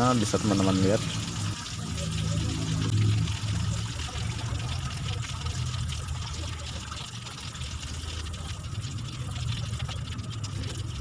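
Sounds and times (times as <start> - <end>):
low steady hum: 0.0 - 11.0
oil sizzling with crackles: 0.0 - 11.0.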